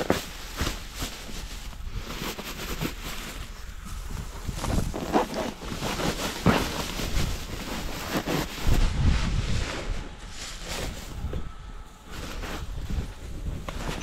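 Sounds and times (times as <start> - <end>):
dry grass rustling and crackling: 0.0 - 14.0
wind buffeting microphone: 0.0 - 14.0.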